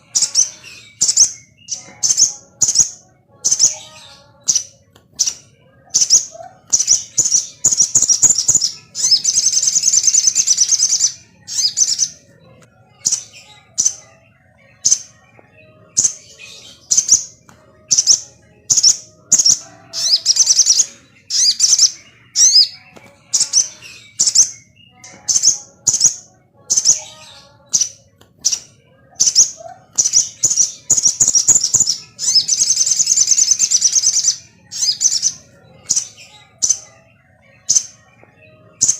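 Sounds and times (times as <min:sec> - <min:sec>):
bird chirping and chattering: 0:00.0 - 0:38.9.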